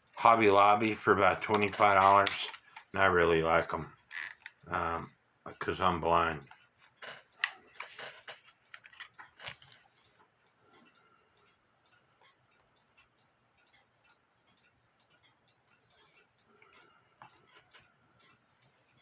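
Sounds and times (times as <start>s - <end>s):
faint ticking: 0.0s - 19.0s.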